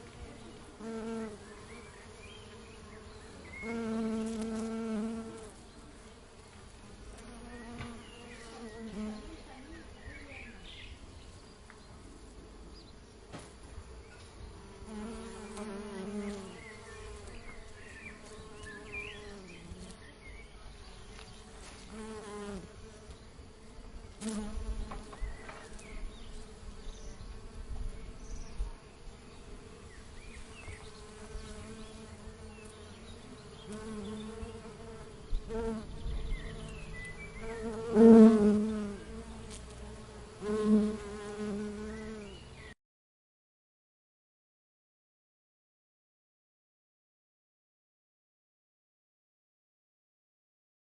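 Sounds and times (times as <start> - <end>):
honey bees buzzing: 0.0 - 11.0, 12.8 - 42.7.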